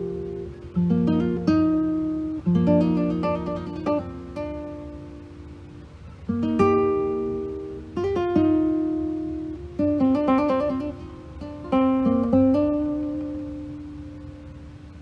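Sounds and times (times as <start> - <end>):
acoustic guitar strumming and picking: 0.0 - 15.0.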